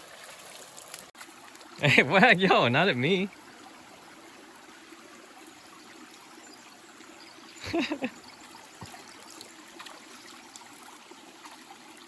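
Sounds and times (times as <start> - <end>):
water trickling over rocks: 0.0 - 12.0.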